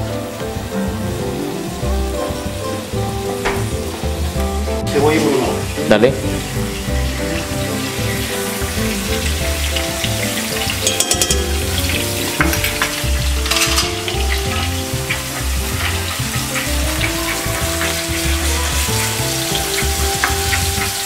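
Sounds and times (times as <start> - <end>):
background music: 0.0 - 21.0
seafood sizzling in oil: 0.0 - 21.0.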